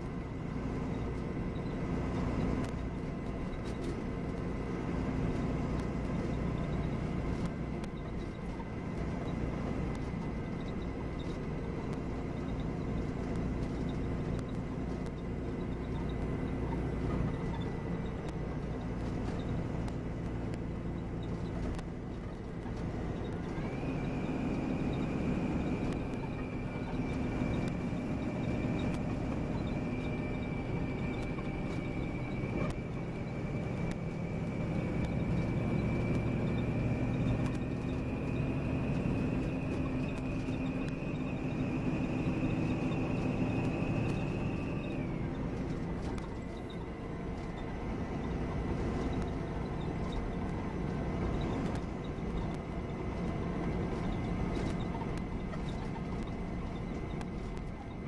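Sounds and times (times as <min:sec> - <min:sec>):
coach engine and road rumble: 0:00.0 - 0:58.0.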